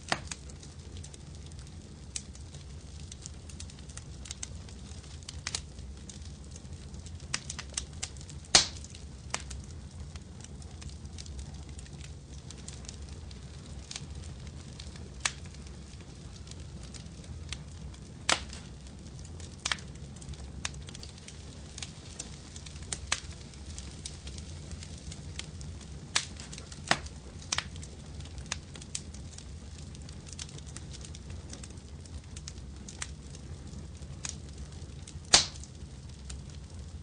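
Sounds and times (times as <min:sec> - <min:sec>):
fire crackling with pops: 0:00.0 - 0:37.0
low rumble of flames: 0:00.0 - 0:37.0.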